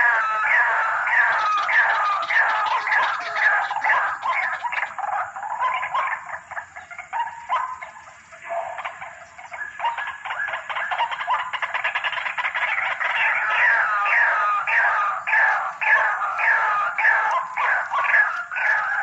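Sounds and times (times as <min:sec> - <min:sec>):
waterhens croaking calls: 0:00.0 - 0:19.0.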